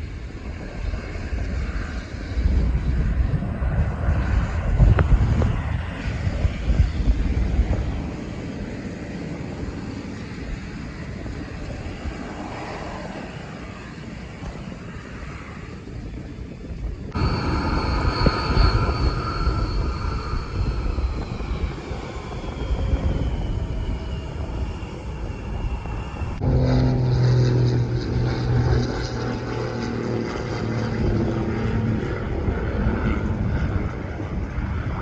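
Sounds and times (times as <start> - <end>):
airplane engine whine: 0.0 - 35.0
low humming drone: 0.0 - 35.0
wind rumble on microphone: 0.0 - 35.0.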